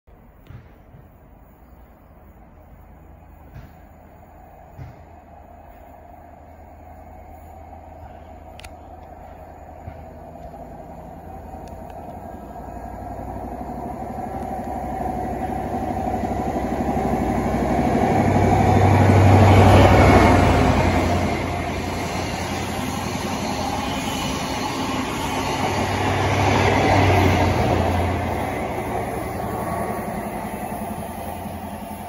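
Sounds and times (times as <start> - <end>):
diesel locomotive engine: 0.1 - 32.0
coaches rumbling on rails: 0.2 - 32.0.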